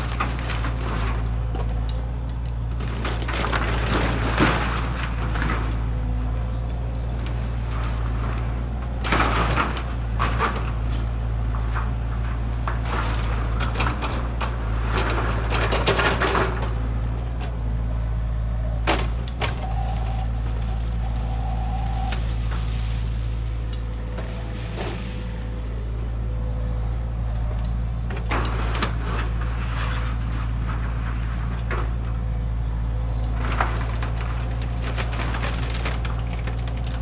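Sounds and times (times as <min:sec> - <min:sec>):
wood crunching and cracking: 0:00.0 - 0:26.4, 0:27.0 - 0:37.0
heavy machine engine running: 0:00.0 - 0:37.0.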